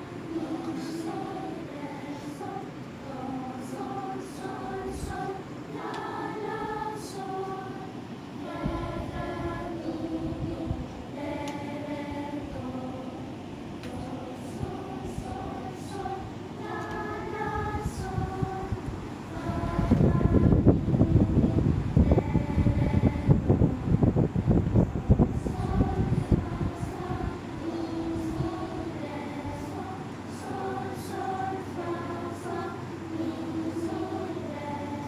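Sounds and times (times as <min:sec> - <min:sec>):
children's choir singing a cappella: 0:00.0 - 0:35.0.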